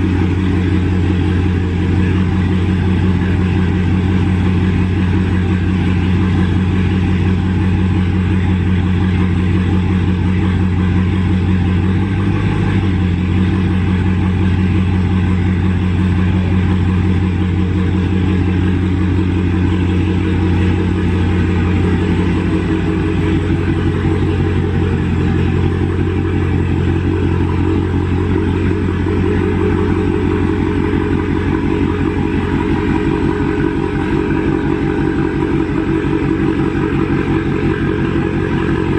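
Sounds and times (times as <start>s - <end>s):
car engine idling: 0.0s - 38.9s
loud exhaust: 0.0s - 38.9s.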